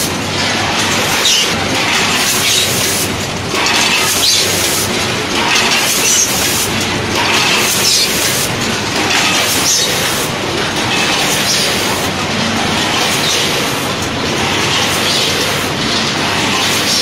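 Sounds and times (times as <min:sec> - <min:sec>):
packaging machines clattering: 0:00.0 - 0:17.0.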